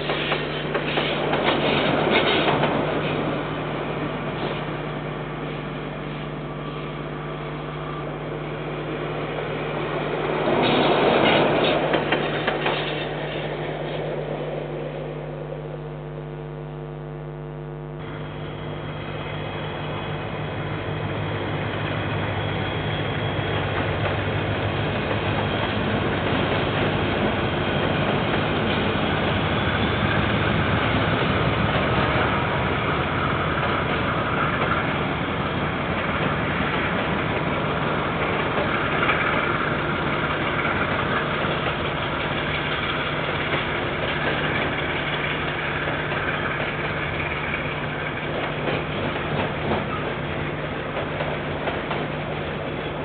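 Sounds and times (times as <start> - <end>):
train wheels rumbling on rails: 0.0 - 15.2, 18.5 - 53.0
diesel locomotive engine hum: 0.0 - 53.0.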